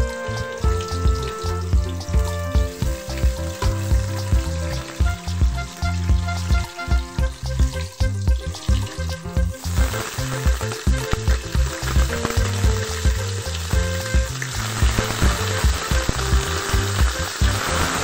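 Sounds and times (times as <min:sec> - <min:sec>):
background music with steady beat: 0:00.0 - 0:18.0
spices sizzling in hot oil: 0:00.0 - 0:18.0.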